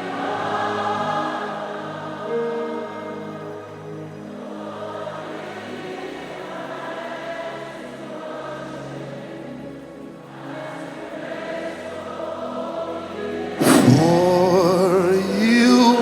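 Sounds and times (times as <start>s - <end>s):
choir holding chords: 0.0s - 16.0s
gospel worship music: 0.0s - 16.0s.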